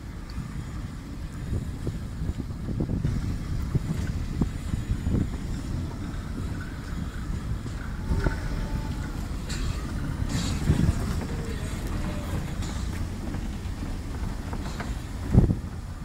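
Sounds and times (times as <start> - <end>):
railway wagons rumbling: 0.0 - 16.0
wind buffeting microphone: 0.0 - 16.0
train wheel knocks: 3.0 - 16.0.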